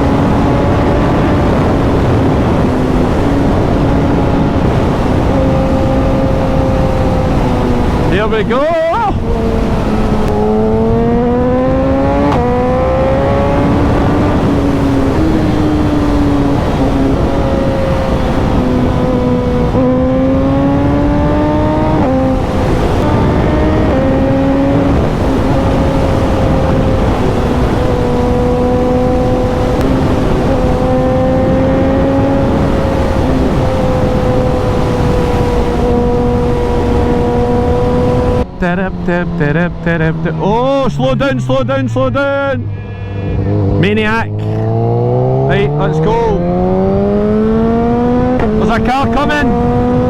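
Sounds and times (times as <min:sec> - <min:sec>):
motorcycle engine accelerating: 0:00.0 - 0:50.0
wind rushing: 0:00.0 - 0:50.0.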